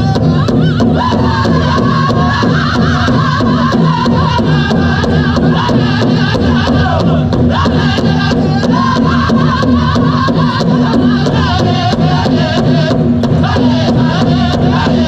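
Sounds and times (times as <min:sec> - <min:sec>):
big drum beating: 0:00.0 - 0:15.0
voices in high chant: 0:00.0 - 0:15.0.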